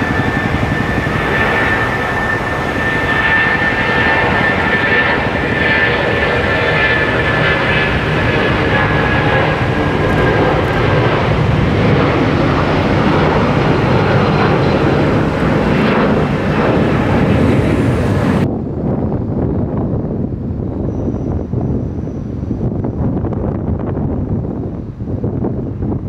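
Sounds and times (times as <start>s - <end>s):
high jet whine: 0.0s - 26.0s
jet engines roaring: 0.0s - 26.0s.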